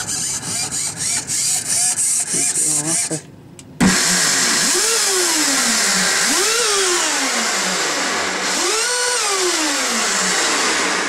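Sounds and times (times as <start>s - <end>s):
electric motor whirring: 0.0s - 3.2s, 3.8s - 11.0s.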